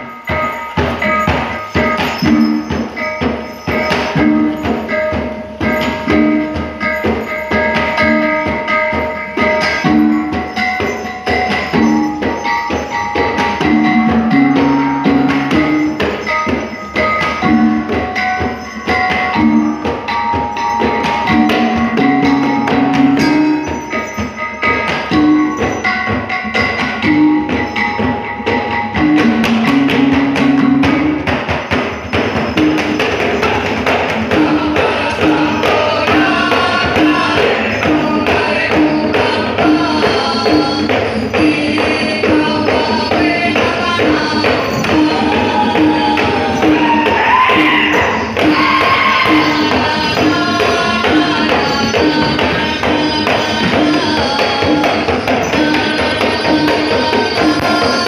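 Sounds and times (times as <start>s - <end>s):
tuned percussion and drums music: 0.0s - 58.0s.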